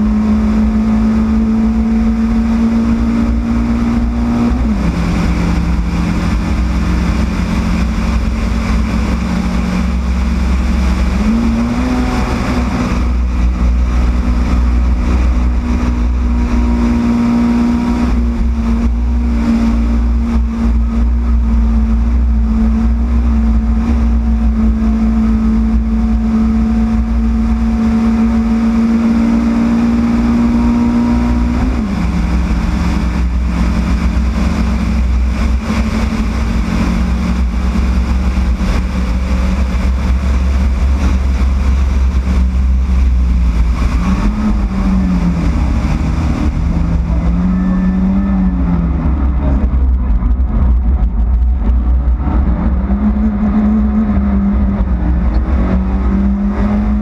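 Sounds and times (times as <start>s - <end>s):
heavy low rumble: 0.0s - 57.0s
race car engine running hard: 0.0s - 57.0s.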